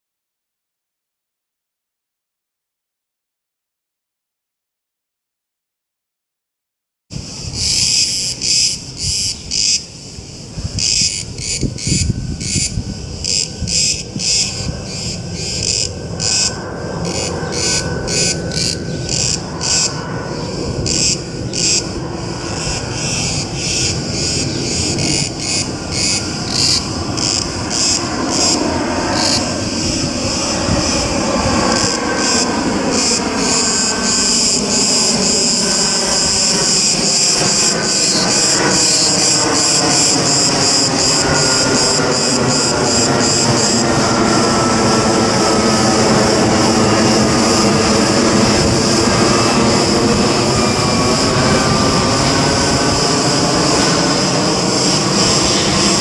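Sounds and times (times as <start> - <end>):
jet aircraft engine whine: 7.1 - 56.0
cicadas buzzing: 7.2 - 56.0.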